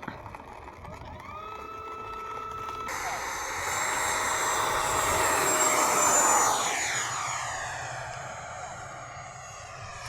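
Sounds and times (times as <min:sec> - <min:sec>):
model jet fan whine passing: 0:01.2 - 0:10.0.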